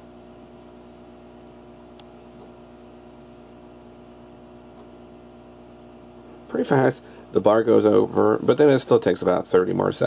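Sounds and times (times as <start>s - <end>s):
equipment humming: 0.0s - 10.0s.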